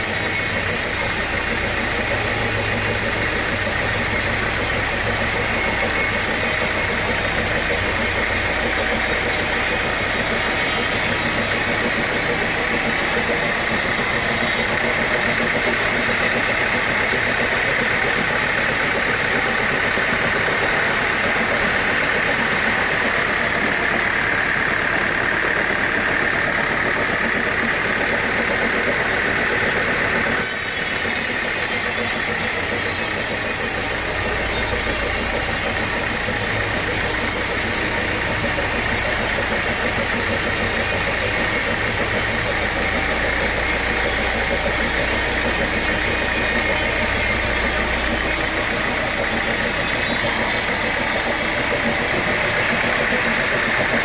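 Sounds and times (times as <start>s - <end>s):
engine-driven saw whining: 0.0s - 54.0s.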